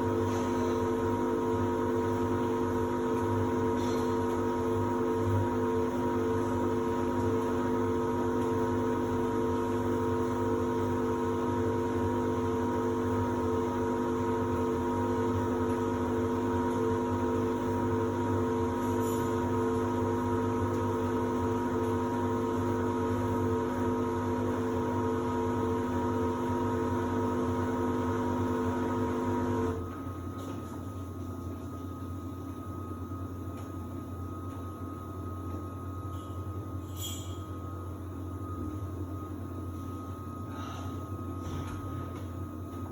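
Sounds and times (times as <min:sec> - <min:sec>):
washer-dryer humming: 0:00.0 - 0:42.9.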